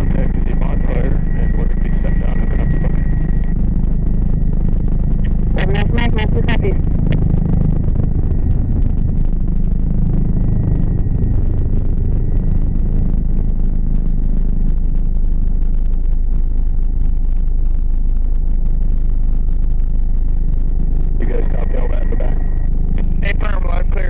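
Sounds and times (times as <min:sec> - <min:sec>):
helicopter rotor and turbine: 0:00.0 - 0:24.0.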